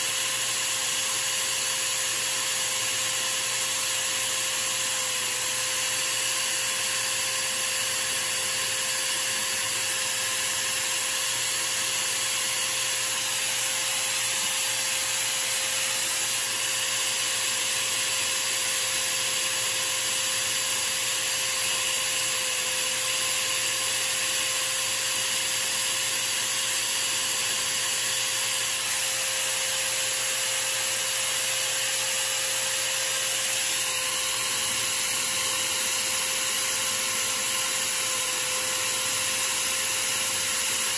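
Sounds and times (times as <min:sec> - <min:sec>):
electric drill whining: 0:00.0 - 0:40.9.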